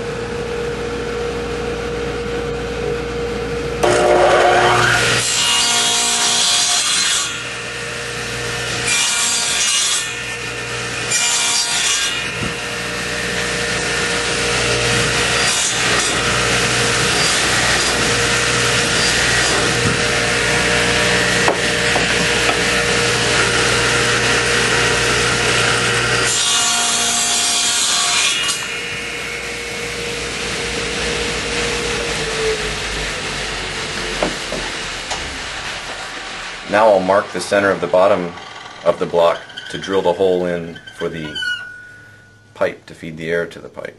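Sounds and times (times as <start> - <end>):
radial arm saw cutting wood: 3.8 - 42.2.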